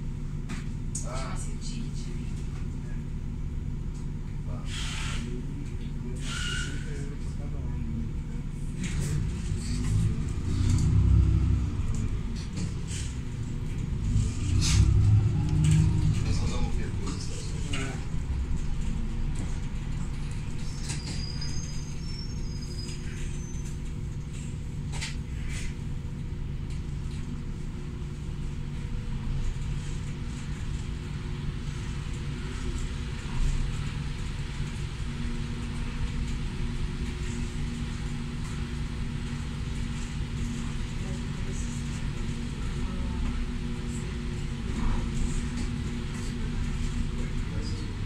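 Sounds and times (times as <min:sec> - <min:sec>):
bus engine hum and rumble: 0:00.0 - 0:48.0.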